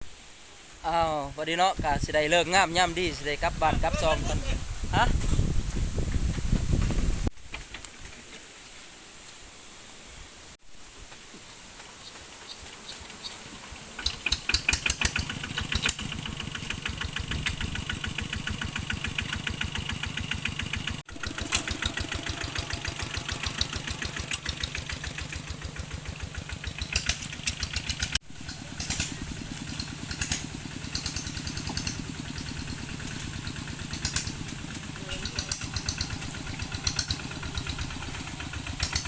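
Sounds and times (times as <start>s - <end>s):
small engine chugging: 0.4s - 7.3s, 12.0s - 39.0s.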